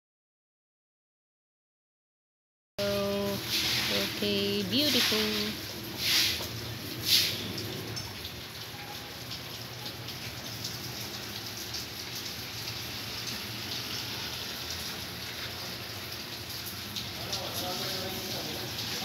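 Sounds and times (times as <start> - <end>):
light rain pattering: 2.8 - 19.0.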